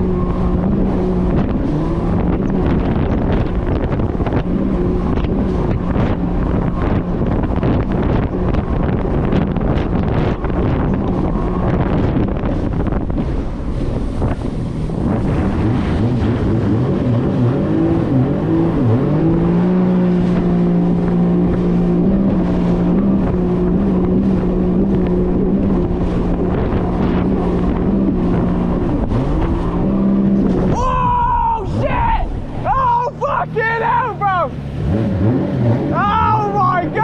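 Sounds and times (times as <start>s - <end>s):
wind and water spray on microphone: 0.0s - 31.1s
jet ski engine running hard: 0.0s - 37.0s.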